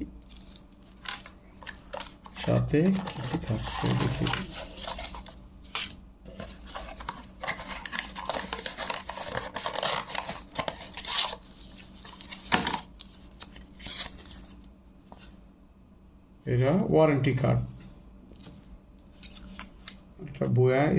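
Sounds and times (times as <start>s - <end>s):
paper and packaging rustling: 0.3s - 15.4s, 18.4s - 20.1s.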